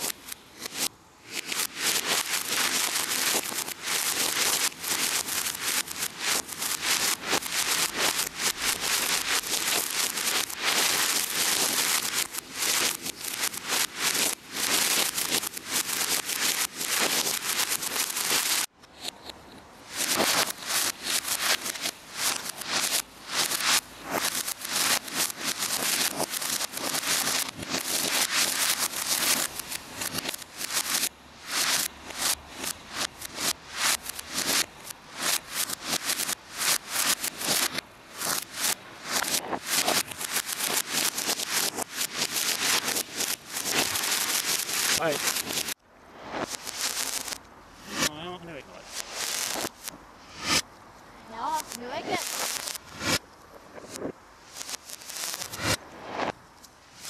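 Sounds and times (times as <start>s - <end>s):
fireworks crackling over hiss: 0.0s - 57.0s.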